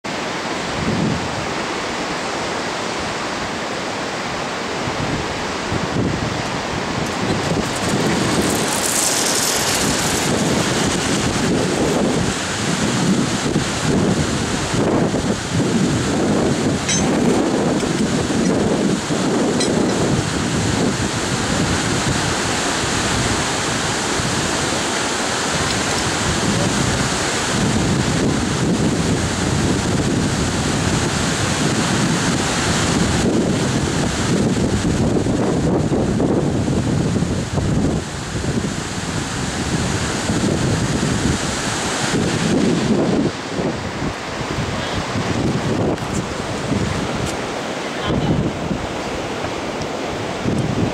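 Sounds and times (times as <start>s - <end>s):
steady rushing noise: 0.0s - 50.9s
wind buffeting microphone: 0.6s - 2.0s, 4.8s - 50.9s.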